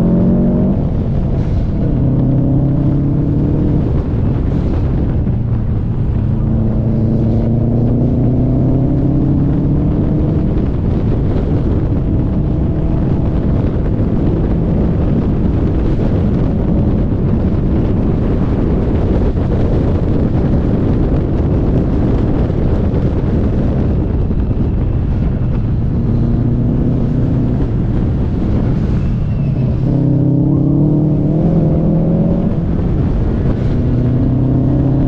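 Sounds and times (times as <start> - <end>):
car engine revving: 0.0 - 18.6, 25.0 - 35.0
road noise: 0.0 - 35.0
wind buffeting microphone: 0.0 - 35.0.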